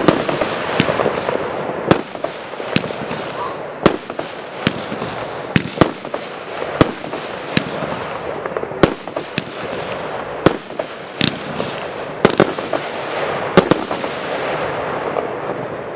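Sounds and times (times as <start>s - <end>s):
continuous rushing noise: 0.0s - 15.9s
fireworks bangs: 0.0s - 15.9s.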